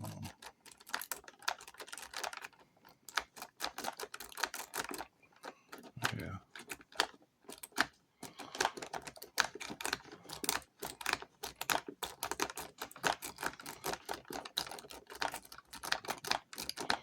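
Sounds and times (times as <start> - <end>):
lock pick clicking and scraping: 0.0 - 17.0.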